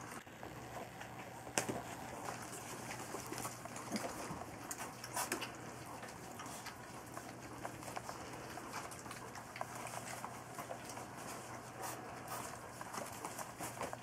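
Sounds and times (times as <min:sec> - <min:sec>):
puppies lapping food: 0:00.0 - 0:14.0
paper crinkling: 0:01.1 - 0:14.0.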